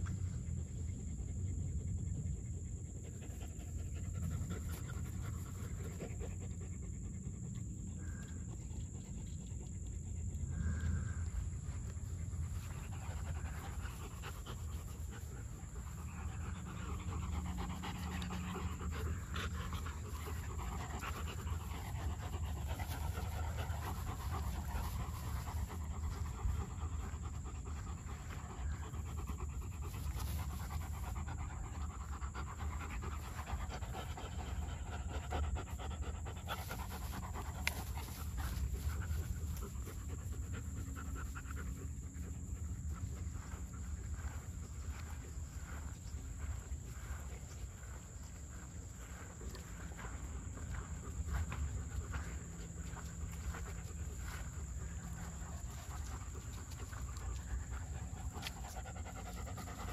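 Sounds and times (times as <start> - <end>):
dogs panting hard: 0.0 - 59.9
steady low rumble: 0.0 - 59.9.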